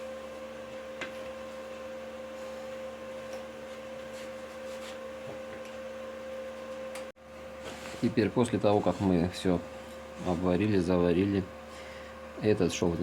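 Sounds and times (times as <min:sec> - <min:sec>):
arc welding hum and crackle: 0:00.0 - 0:13.0.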